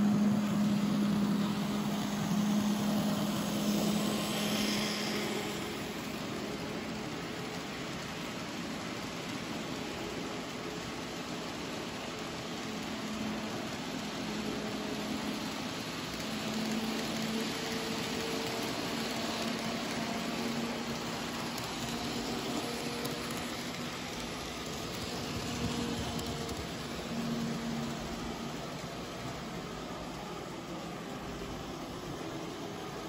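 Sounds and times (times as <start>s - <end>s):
model train rolling on track: 0.0s - 33.0s.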